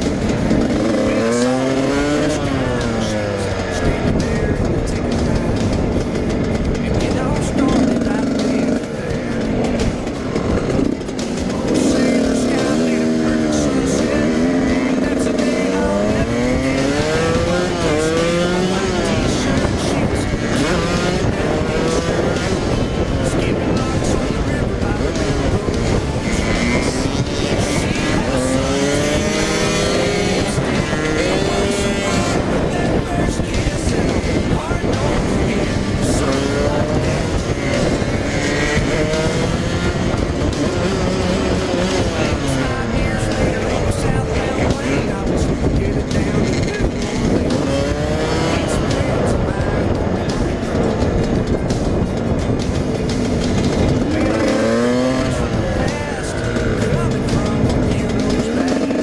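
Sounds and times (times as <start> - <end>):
dirt bike engine accelerating: 0.0 - 59.0
wind rumbling on microphone: 0.0 - 59.0.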